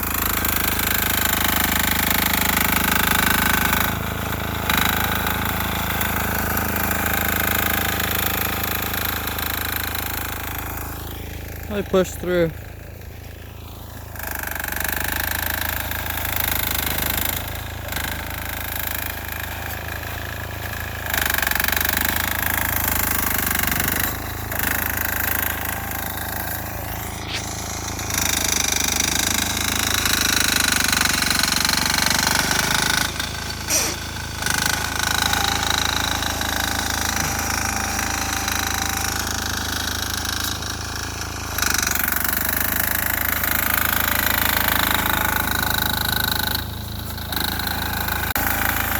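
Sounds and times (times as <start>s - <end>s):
small diesel engine knocking: 0.0s - 48.9s.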